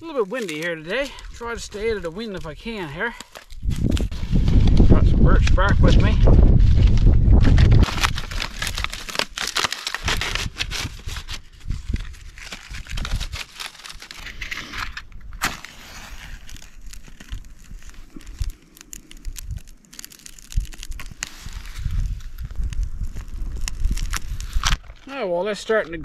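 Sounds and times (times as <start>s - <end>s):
bark crinkling and tearing: 0.0s - 25.2s.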